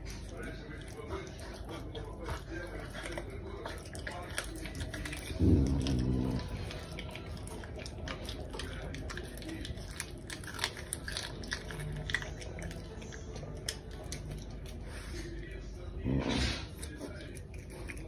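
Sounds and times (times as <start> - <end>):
wild cat chewing raw meat: 0.0 - 18.0.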